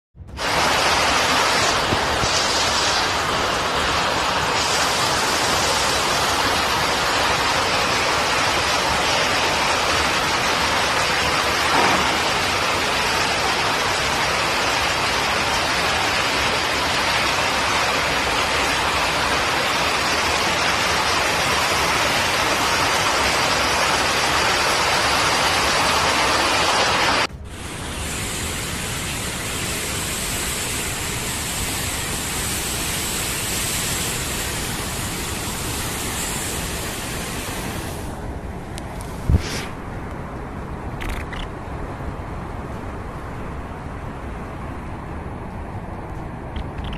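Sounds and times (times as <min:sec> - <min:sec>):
heavy rain pouring: 0:00.3 - 0:40.1.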